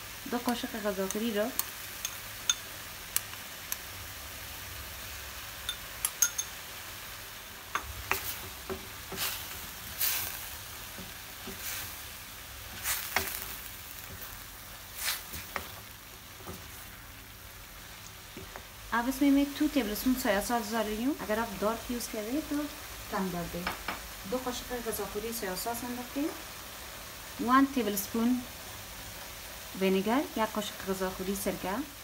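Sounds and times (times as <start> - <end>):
vegetables sizzling in a wok: 0.0 - 32.0.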